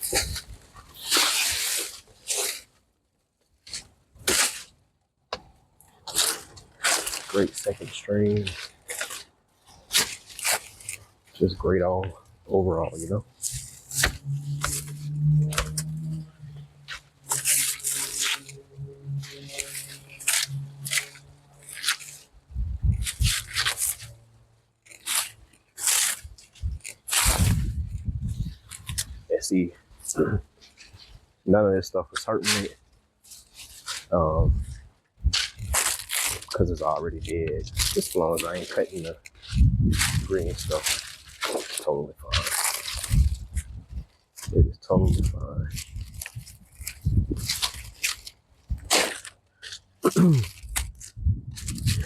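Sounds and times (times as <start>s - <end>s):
dry leaves rustling and tearing: 0.0s - 2.7s, 3.6s - 4.7s, 6.0s - 11.6s, 12.9s - 24.2s, 24.8s - 29.2s, 32.4s - 44.5s, 45.1s - 52.0s.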